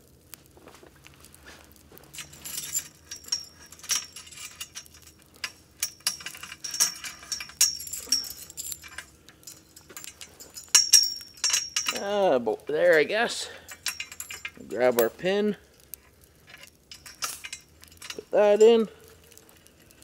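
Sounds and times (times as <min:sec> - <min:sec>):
metal chain clinking: 0:02.0 - 0:20.0.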